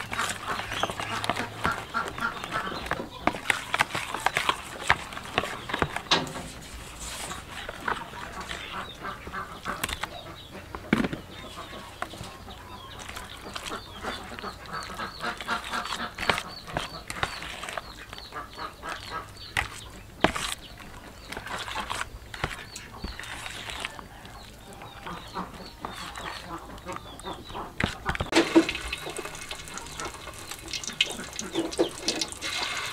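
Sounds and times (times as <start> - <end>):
spoon mixing in plastic bowl: 0.0 - 10.2, 10.8 - 32.9
birds chirping: 0.0 - 32.9.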